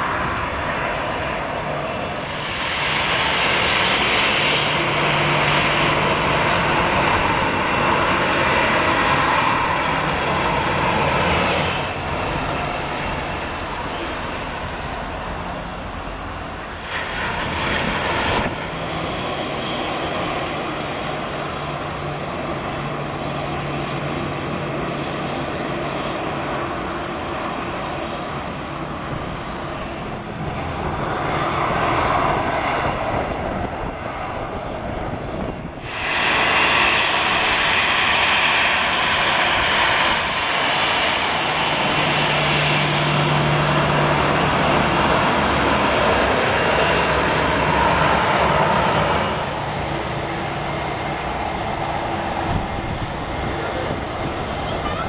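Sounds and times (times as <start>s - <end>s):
jet engines at taxi power: 0.0s - 55.0s.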